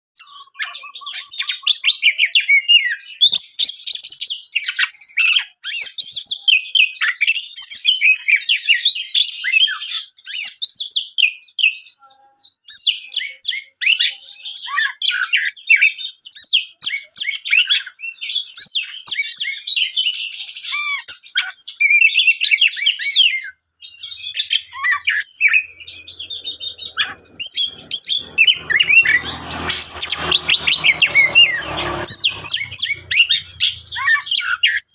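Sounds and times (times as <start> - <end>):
songbird singing whistles and trills: 0.2 - 34.9.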